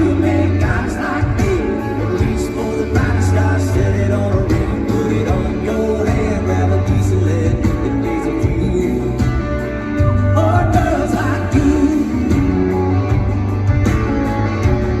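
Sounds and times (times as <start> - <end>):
country-rock band playing: 0.0 - 15.0
heavy bass line: 0.0 - 15.0.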